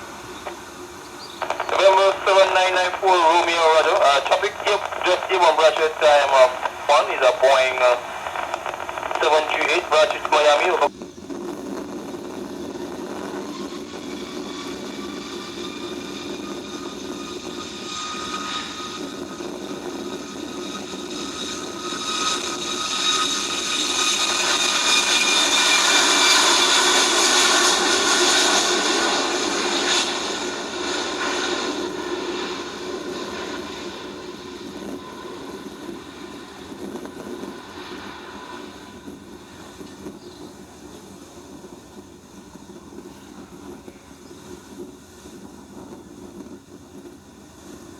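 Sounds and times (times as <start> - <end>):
jet airliner passing: 0.0 - 47.8.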